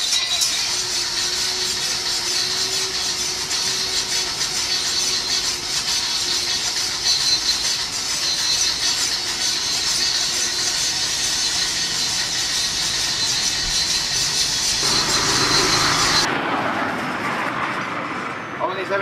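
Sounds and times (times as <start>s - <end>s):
file rasping on steel blade: 0.0s - 16.3s.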